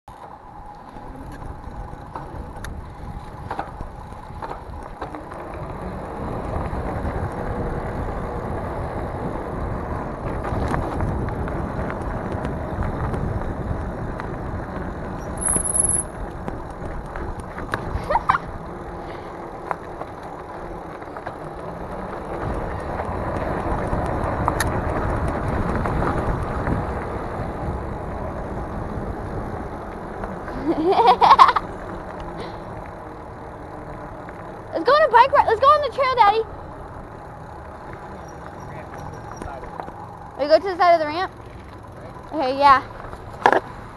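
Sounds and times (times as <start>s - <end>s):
bike rattles and clicks: 0.1s - 43.9s.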